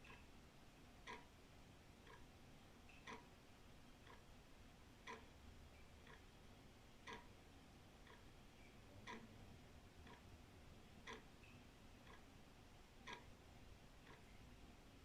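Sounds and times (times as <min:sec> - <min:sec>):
pendulum clock ticking: 0:00.0 - 0:00.3, 0:01.0 - 0:06.4, 0:07.0 - 0:10.4, 0:11.0 - 0:14.5.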